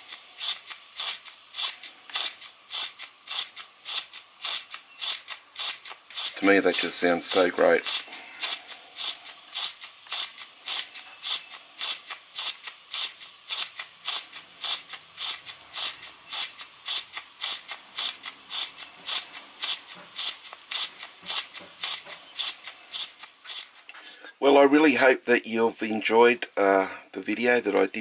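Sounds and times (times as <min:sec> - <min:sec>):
model steam engine chuffing: 0:00.0 - 0:24.0.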